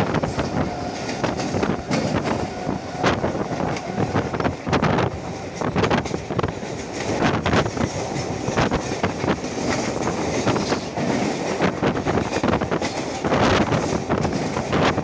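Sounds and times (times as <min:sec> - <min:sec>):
train wheels clattering: 0:00.0 - 0:15.0.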